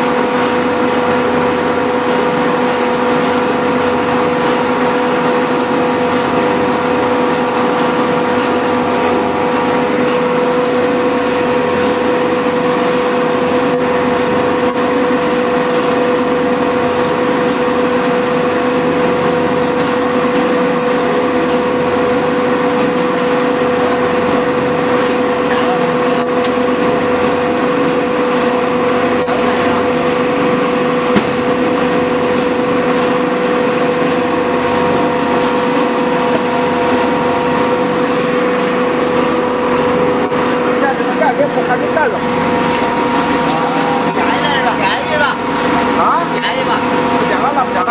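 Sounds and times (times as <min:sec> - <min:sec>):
churning noise: 0:00.0 - 0:47.9
paint mixer motor humming: 0:00.0 - 0:47.9.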